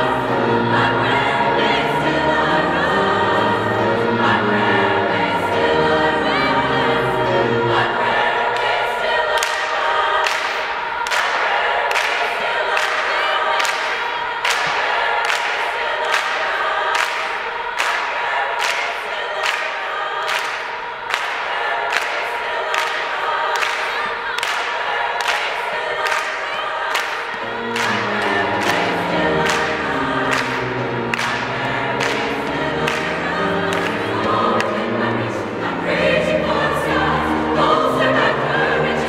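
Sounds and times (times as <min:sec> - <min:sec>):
girls' choir singing: 0:00.0 - 0:39.0.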